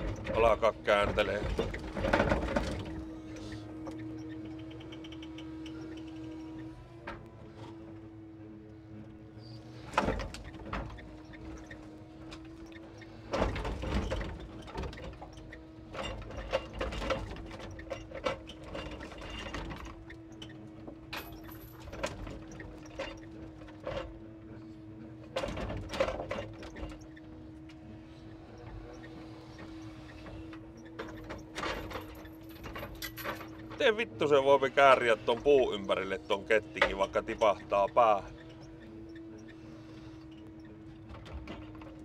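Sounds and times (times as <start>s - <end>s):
hydraulic crane hum: 0.0s - 42.0s.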